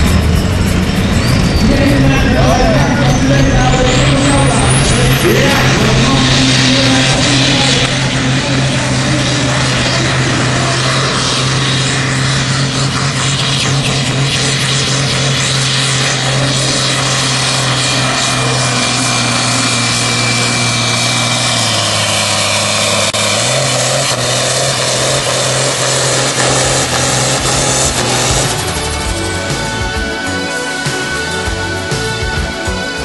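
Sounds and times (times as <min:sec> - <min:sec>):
tractor diesel engine droning: 0:00.0 - 0:33.0.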